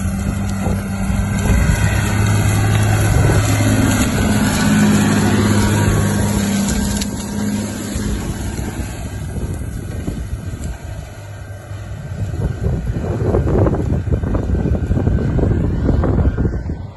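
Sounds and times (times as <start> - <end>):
disc harrow rumbling in soil: 0.0 - 16.9
tractor engine drone: 0.0 - 16.9.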